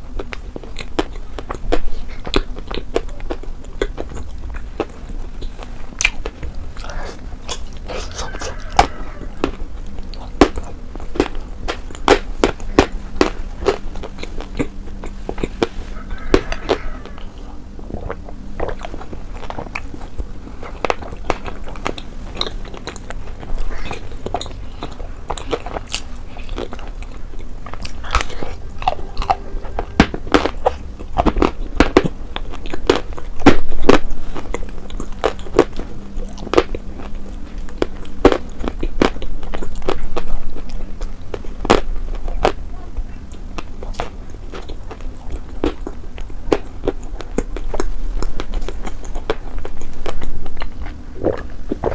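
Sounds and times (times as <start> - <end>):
wet chewing and biting: 0.0 - 51.9
lip smacks and clicks: 0.1 - 51.9.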